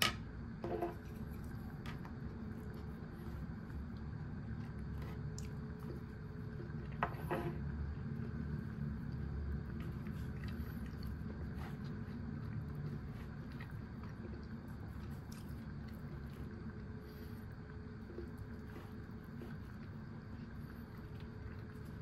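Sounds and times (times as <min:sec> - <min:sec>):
muffled chewing: 0:00.6 - 0:22.0.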